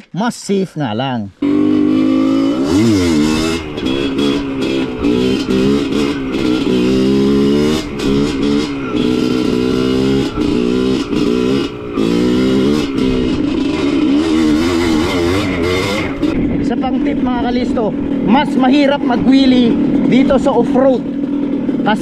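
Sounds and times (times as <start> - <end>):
motorcycle engine revving: 1.4 - 22.0.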